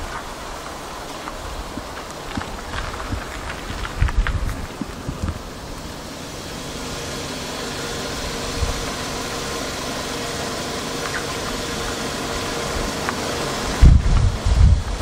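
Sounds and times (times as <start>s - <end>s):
car engine idling: 0.0s - 15.0s
steady hiss: 0.0s - 15.0s.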